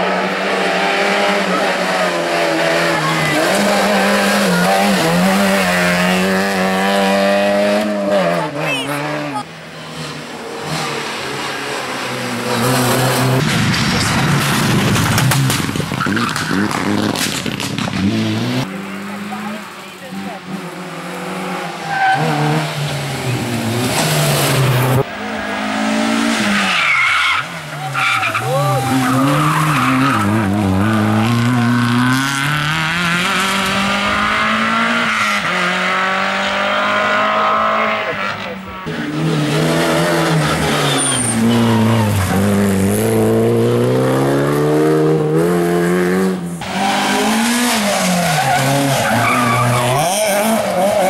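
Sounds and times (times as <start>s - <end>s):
rally car engine at high revs: 0.0s - 51.0s.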